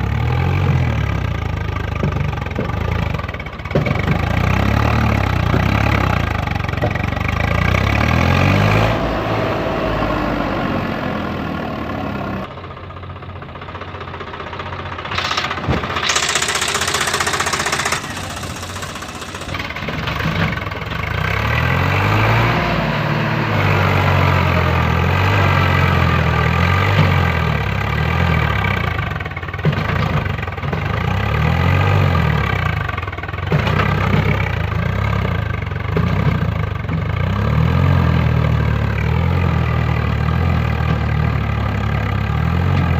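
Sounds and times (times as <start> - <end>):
tractor engine revving: 0.0 - 42.9.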